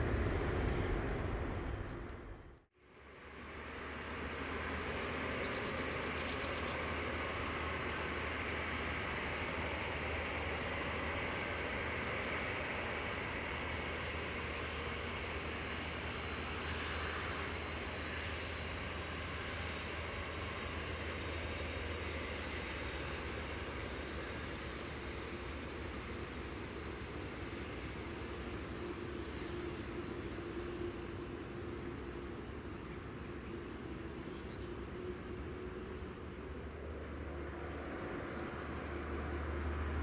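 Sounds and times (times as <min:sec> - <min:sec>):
jet engines idling: 0:00.0 - 0:40.0.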